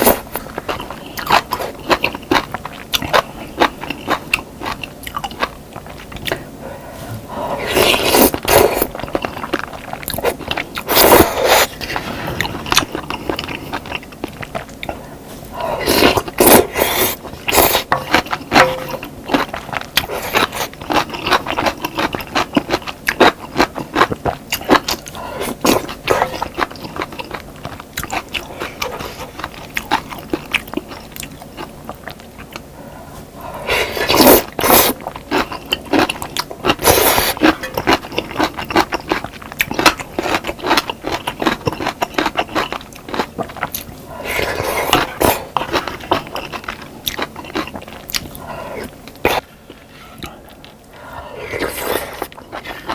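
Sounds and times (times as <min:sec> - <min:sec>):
chewing: 0:00.0 - 0:06.4, 0:07.6 - 0:32.7, 0:33.8 - 0:52.9.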